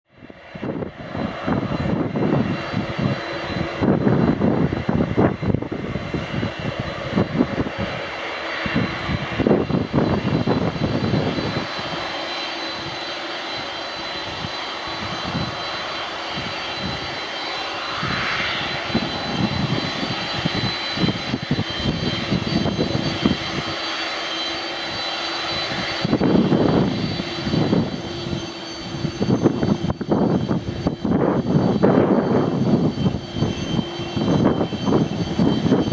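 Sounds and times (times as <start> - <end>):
jet engines whining: 0.1 - 35.9
low rumbling gusts: 0.1 - 35.9.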